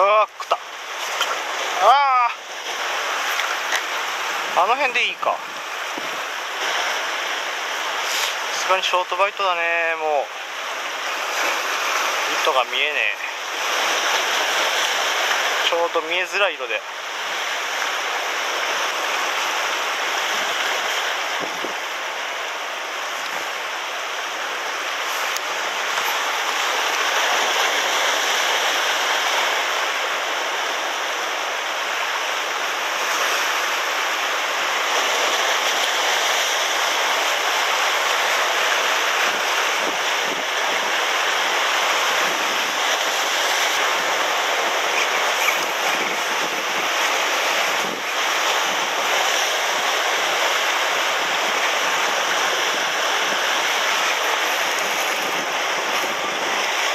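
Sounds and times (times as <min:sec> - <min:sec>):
surf washing over rocks: 0:00.0 - 0:56.9.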